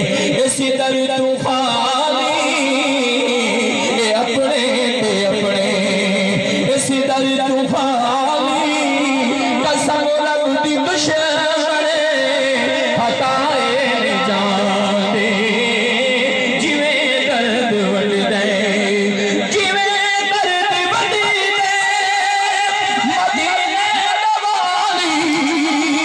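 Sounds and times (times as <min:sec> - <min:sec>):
man singing over loudspeaker: 0:00.0 - 0:26.0.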